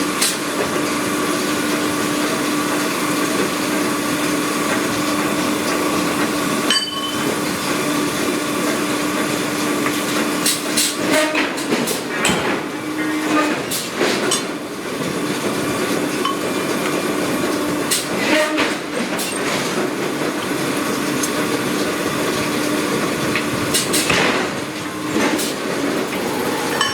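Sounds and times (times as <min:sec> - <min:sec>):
industrial machinery hum: 0:00.0 - 0:26.9.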